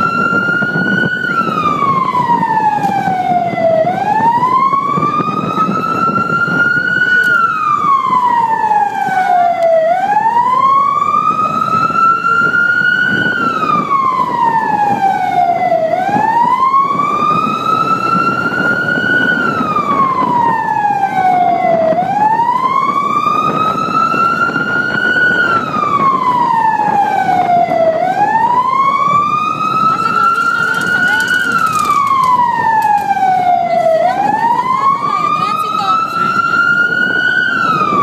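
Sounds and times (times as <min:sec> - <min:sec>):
vehicle siren wailing: 0:00.0 - 0:38.0.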